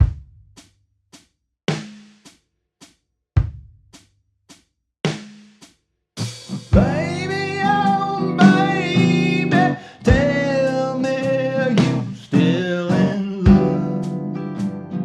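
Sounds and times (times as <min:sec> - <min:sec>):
slow sparse drum beat: 0:00.0 - 0:15.0.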